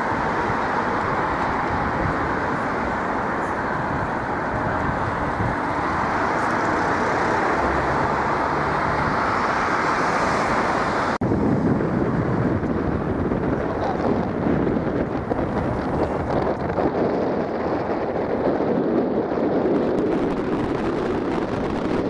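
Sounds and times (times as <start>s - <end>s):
traffic noise: 0.0s - 22.0s
wind buffeting microphone: 0.0s - 22.0s.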